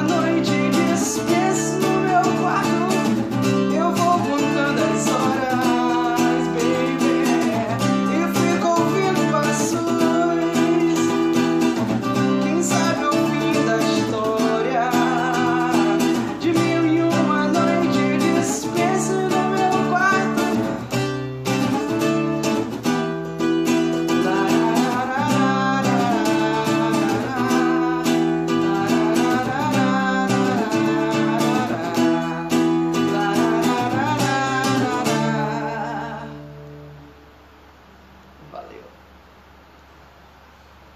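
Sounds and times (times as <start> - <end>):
man singing: 0.0 - 22.6, 23.4 - 36.9
acoustic guitar strummed: 0.0 - 37.7.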